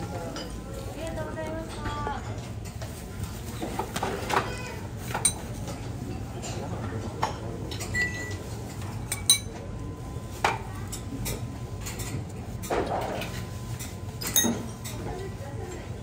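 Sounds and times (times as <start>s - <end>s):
dishes and utensils clinking: 0.1s - 0.6s, 1.4s - 9.7s, 10.3s - 16.0s.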